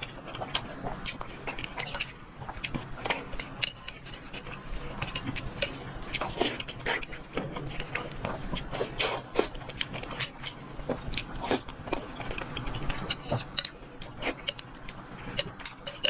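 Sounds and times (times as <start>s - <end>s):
person chewing and smacking food: 0.0s - 16.0s.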